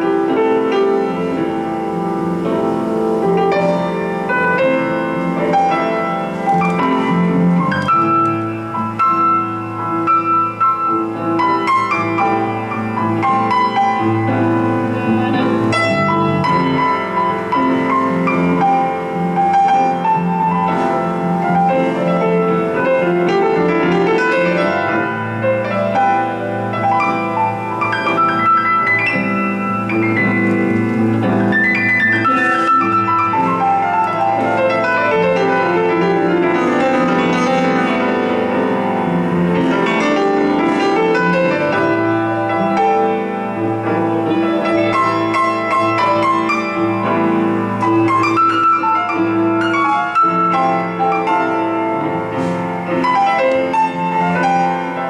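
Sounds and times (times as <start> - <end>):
grand piano: 0.0 - 55.0.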